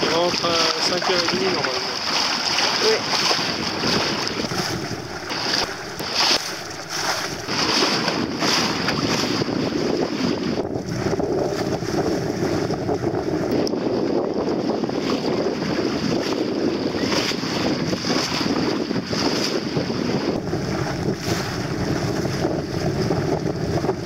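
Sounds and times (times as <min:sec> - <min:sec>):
water splashing along a hull: 0:00.0 - 0:24.0
wind gusting over microphone: 0:00.0 - 0:24.0.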